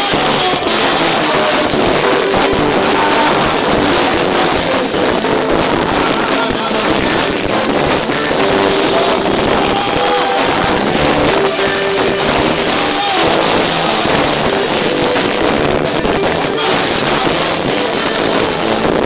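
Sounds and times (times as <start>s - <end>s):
drum kit: 0.0s - 19.0s
electric bass guitar: 0.0s - 19.0s
keyboard: 0.0s - 19.0s.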